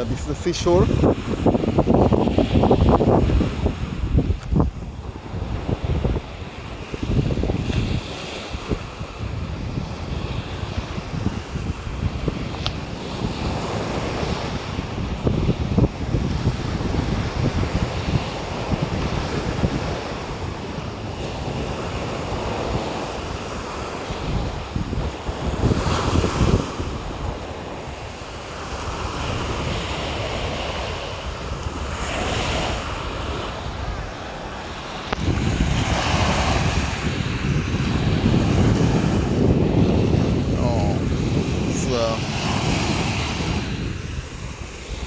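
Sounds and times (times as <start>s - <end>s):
waves washing up a shore: 0.0s - 45.0s
wind buffeting microphone: 0.0s - 45.0s.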